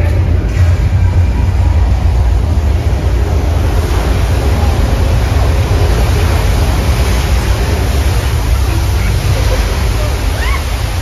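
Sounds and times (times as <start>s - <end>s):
deep rumble: 0.0s - 11.0s
torrent of water pouring: 0.0s - 11.0s.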